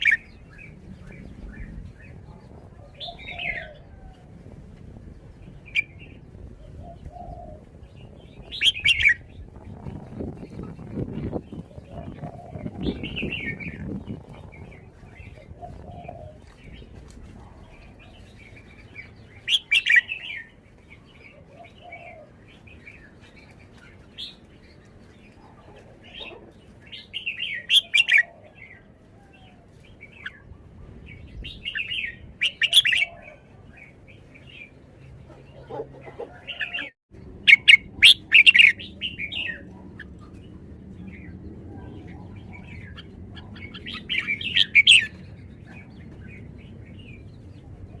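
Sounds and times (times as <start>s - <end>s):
bird song phrases: 0.0s - 4.2s, 5.2s - 48.0s.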